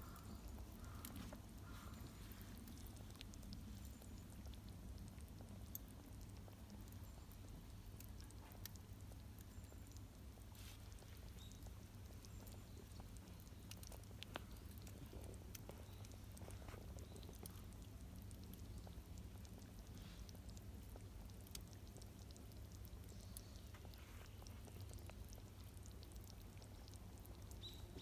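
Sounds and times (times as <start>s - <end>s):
low steady hum: 0.0s - 28.0s
campfire crackling and popping: 2.5s - 27.6s.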